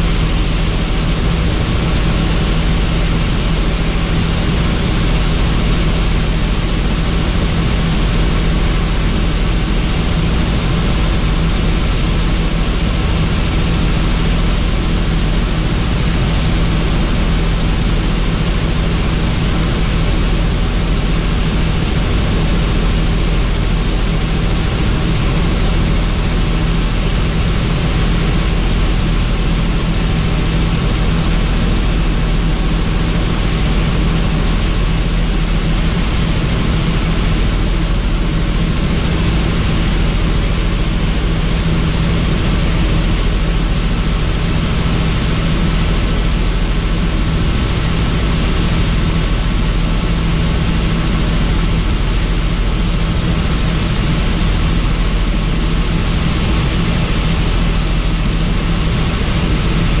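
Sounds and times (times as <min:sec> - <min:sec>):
helicopter rotor and engine: 0:00.0 - 1:00.0.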